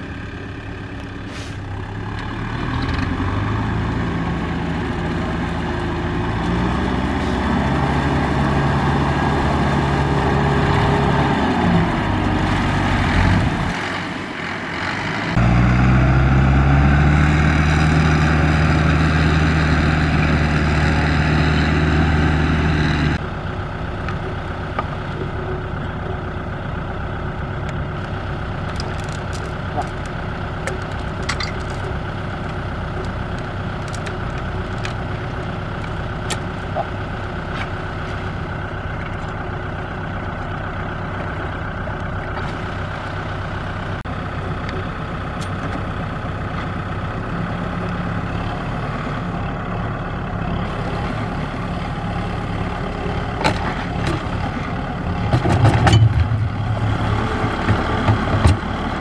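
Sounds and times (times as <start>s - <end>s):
tractor diesel engine: 0.0s - 59.0s.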